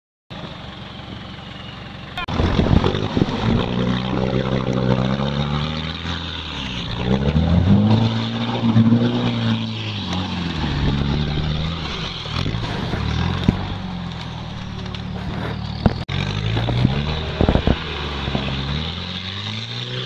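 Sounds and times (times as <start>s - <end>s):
off-road vehicle engine revving: 2.2s - 20.0s.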